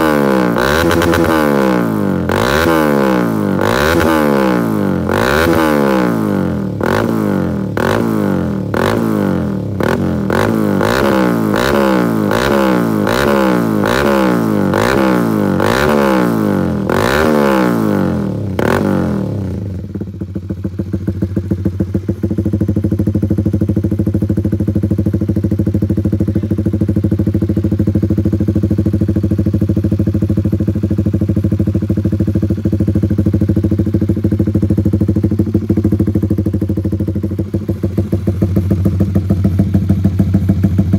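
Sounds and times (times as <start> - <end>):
motorcycle engine idling: 0.0 - 40.9
motorcycle engine revving: 0.0 - 40.9.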